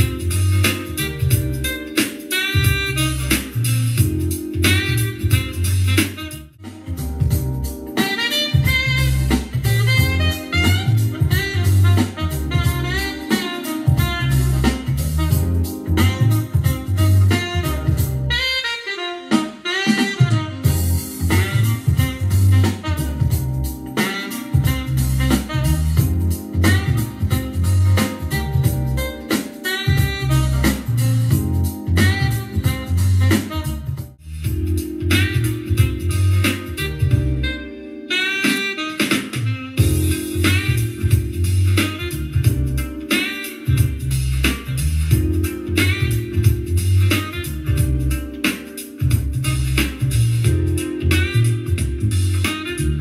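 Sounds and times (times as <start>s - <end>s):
heavy repeating bass line: 0.0s - 1.8s, 2.5s - 18.4s, 20.6s - 29.3s, 29.9s - 37.5s, 39.8s - 48.4s, 49.0s - 53.0s.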